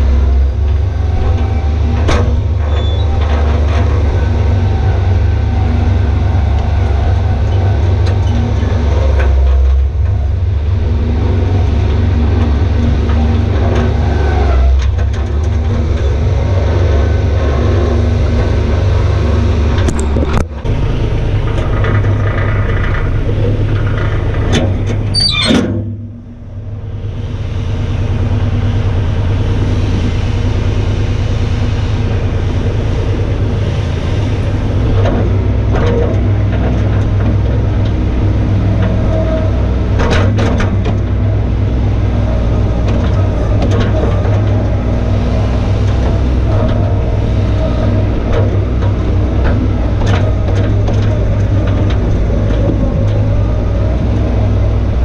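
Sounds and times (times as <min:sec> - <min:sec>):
loader diesel engine running: 0:00.0 - 0:55.0.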